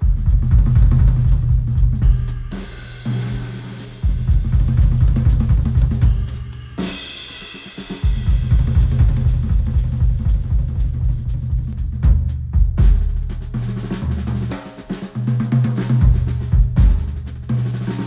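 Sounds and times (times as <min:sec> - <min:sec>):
drum-kit groove with heavy bass: 0:00.0 - 0:18.0.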